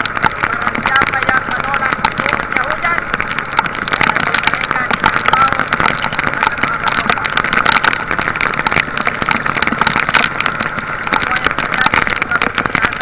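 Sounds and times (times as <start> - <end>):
boat engine drone: 0.0 - 13.0
heavy rain and wind on microphone: 0.0 - 13.0.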